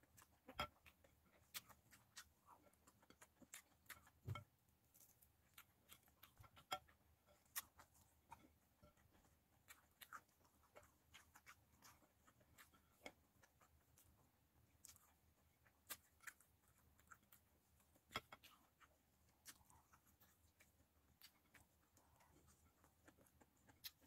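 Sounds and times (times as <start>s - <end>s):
chewing smacks: 0.0s - 24.0s
fingers picking at food on plate: 0.0s - 24.0s.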